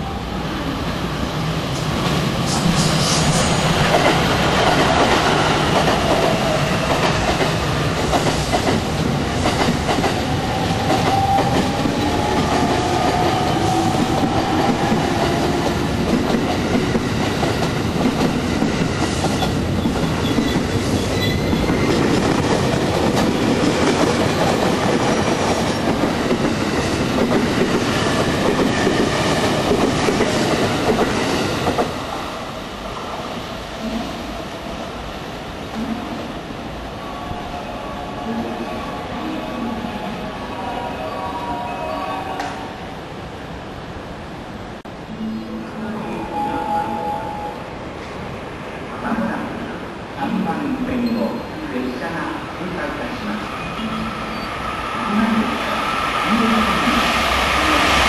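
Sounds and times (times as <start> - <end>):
electric train rumbling past: 0.0 - 58.0.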